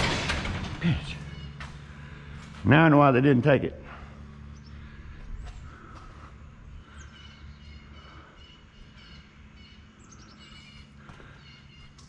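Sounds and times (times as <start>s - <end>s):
low steady hum: 0.0s - 12.0s
songbirds chirping: 0.8s - 12.0s.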